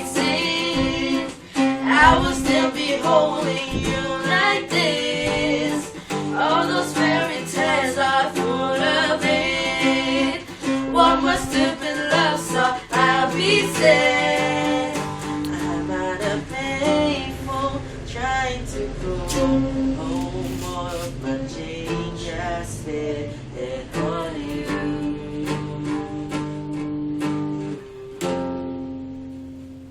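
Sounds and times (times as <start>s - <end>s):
person singing wordless melody: 0.0s - 26.9s
acoustic guitar strumming: 0.0s - 29.9s.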